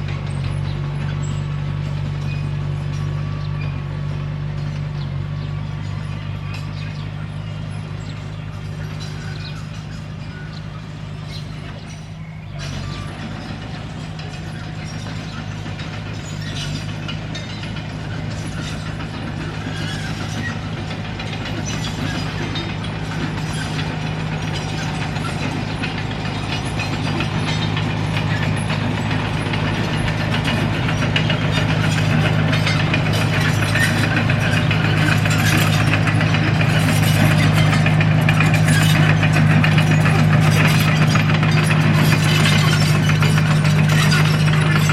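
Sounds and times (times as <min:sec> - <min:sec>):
bulldozer diesel engine running: 0:00.0 - 0:44.9
steel tracks clattering: 0:00.0 - 0:44.9.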